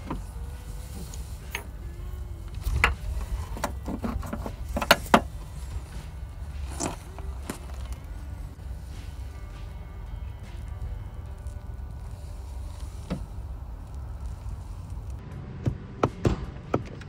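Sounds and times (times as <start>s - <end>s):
engine parts knocking and clinking: 0.0s - 17.0s
low steady rumble: 0.0s - 17.0s.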